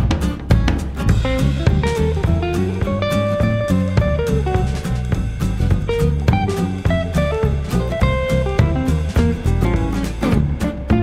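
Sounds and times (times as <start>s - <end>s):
instrumental music with guitar and drums: 0.0s - 11.0s.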